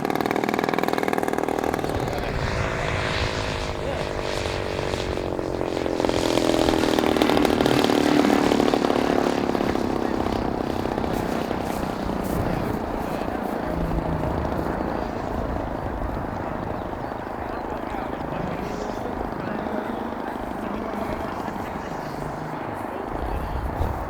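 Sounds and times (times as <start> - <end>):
model airplane engine flying past: 0.0 - 24.0.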